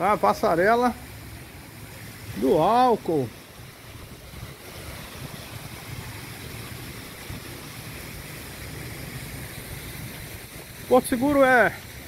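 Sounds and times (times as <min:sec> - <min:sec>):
street ambience hiss: 0:00.0 - 0:12.0.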